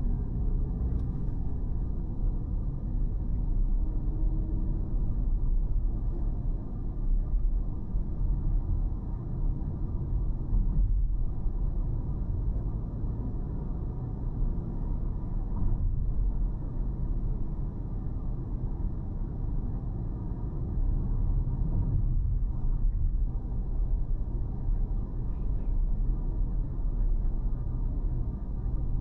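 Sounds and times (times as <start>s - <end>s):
car engine and tyre noise: 0.0s - 29.0s.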